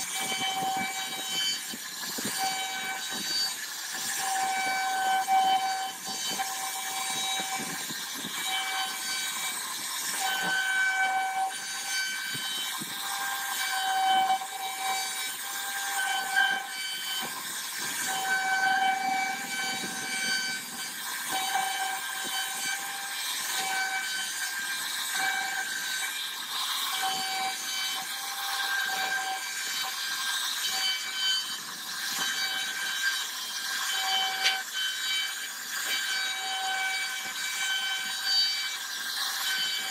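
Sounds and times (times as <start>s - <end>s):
bit cutting wood hissing: 0.0s - 39.9s
router spindle high whine: 0.0s - 39.9s.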